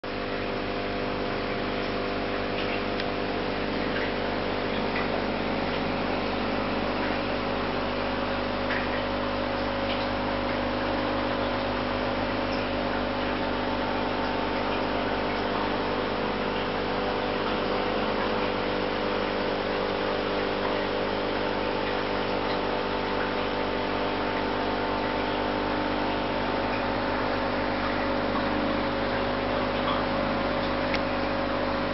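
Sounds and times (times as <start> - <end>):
electrical motor hum: 0.0 - 31.9.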